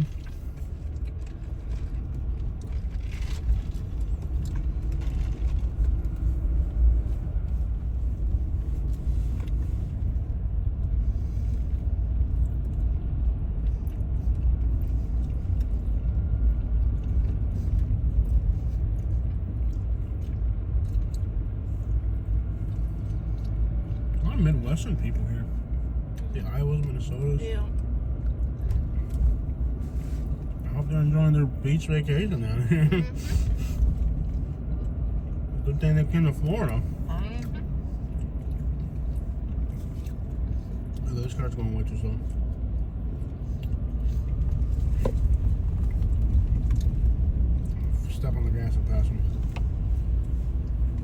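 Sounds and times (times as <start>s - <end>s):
car driving interior rumble: 0.0s - 51.0s.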